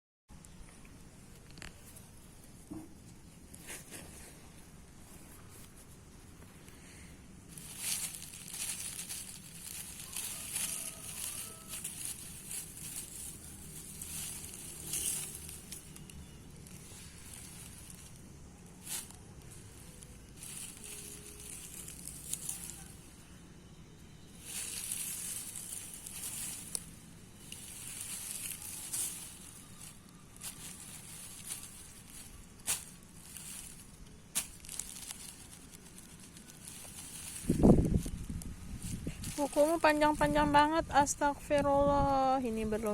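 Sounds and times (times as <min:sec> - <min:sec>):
rustling and crackling: 0:00.7 - 0:42.9.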